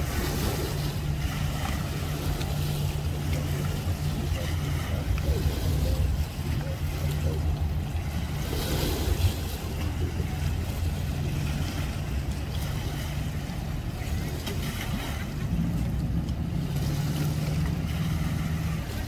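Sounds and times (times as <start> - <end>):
water noise: 0.0 - 19.0.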